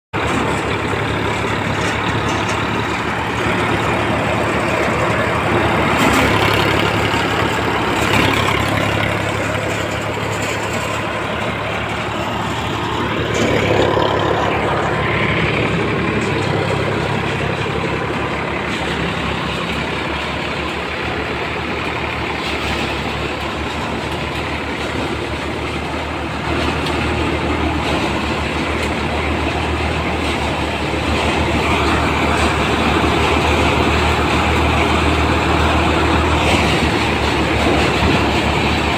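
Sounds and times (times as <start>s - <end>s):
tractor diesel engine running: 0.1s - 38.9s
threshing machine running: 0.2s - 38.9s.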